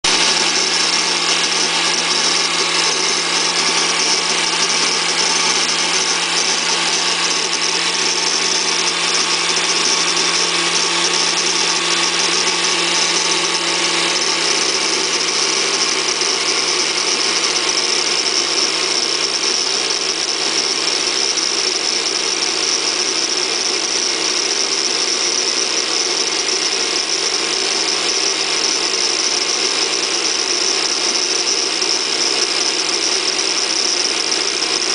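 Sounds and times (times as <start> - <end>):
angle grinder grinding steel: 0.0 - 34.9.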